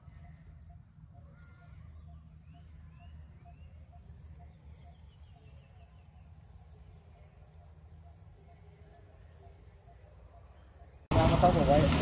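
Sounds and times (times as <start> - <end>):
birds chirping: 0.0 - 12.0
insects buzzing: 0.0 - 12.0.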